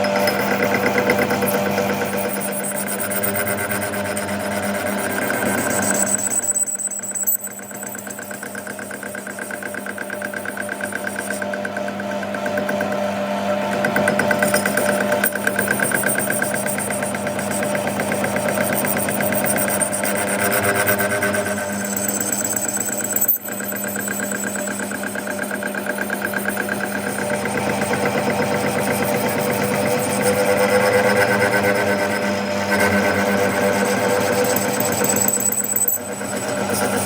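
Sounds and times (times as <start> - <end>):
machine running with fast pulse: 0.0 - 37.0.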